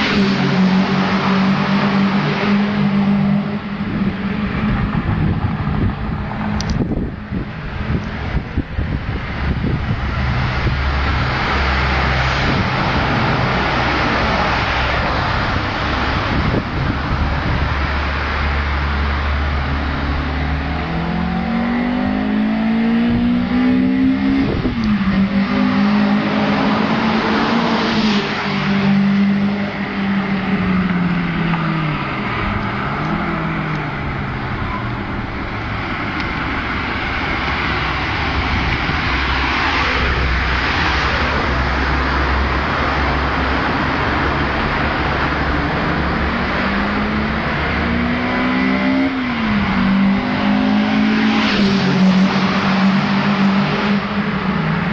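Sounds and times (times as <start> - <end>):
car engine revving in a tunnel: 0.0 - 54.9.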